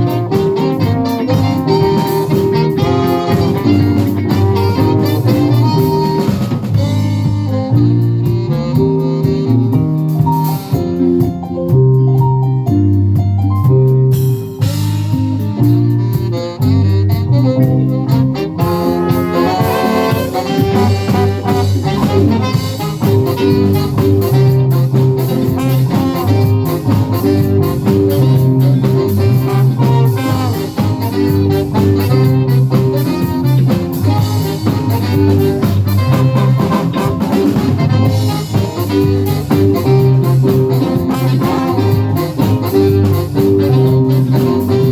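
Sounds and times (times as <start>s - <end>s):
live jazz band playing: 0.0s - 44.9s.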